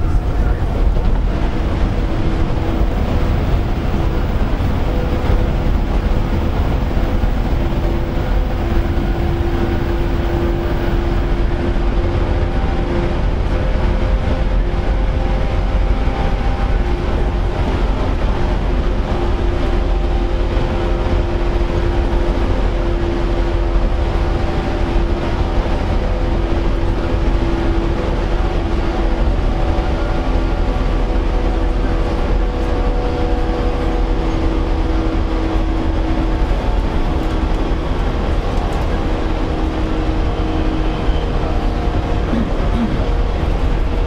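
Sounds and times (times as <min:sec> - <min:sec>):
train traction motors humming: 0:00.0 - 0:44.0
wheels rumbling on rail: 0:00.0 - 0:44.0.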